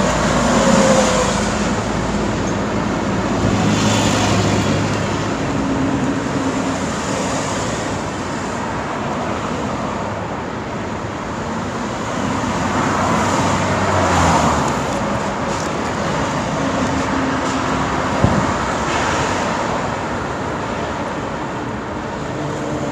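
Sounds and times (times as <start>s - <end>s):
road traffic passing: 0.0s - 22.9s.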